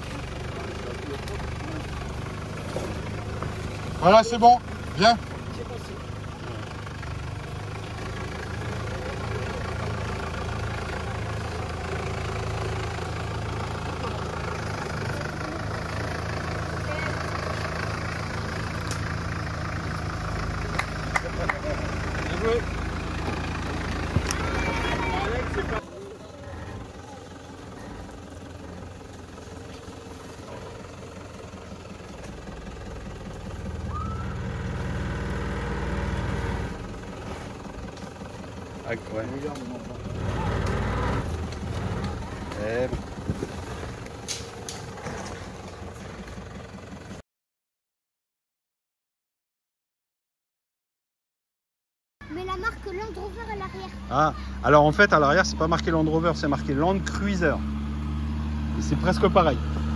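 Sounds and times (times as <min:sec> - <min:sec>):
car engine running at low revs: 0:00.0 - 0:47.2, 0:52.3 - 0:59.9.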